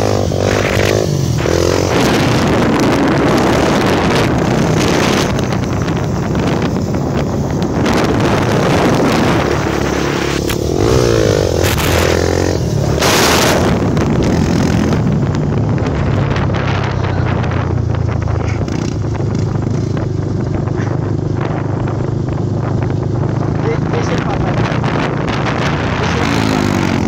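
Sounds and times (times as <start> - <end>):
motorcycle engine running: 0.0 - 27.0
wind on microphone: 0.0 - 27.0.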